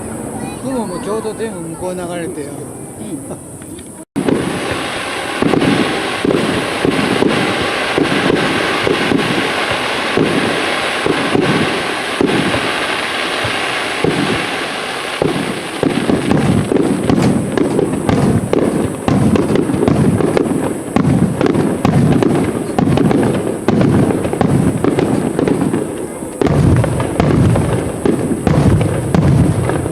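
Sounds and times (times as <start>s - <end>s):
firework crackle: 0.0s - 29.9s
fireworks shells bursting: 3.6s - 29.9s.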